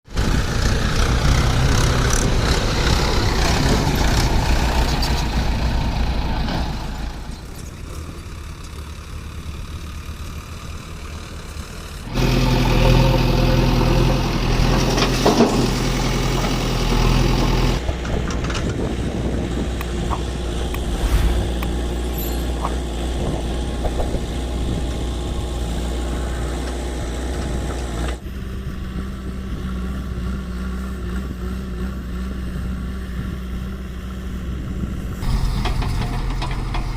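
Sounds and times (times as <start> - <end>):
diesel engines running: 0.1 - 36.9.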